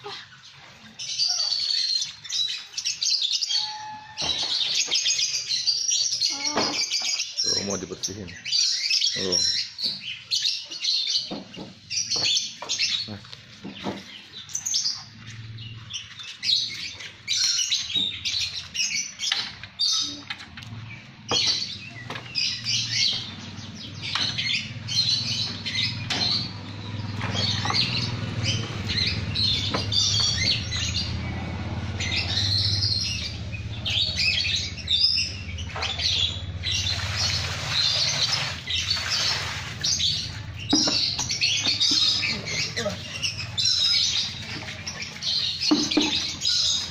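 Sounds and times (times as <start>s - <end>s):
birds chirping and chattering: 0.0s - 46.9s.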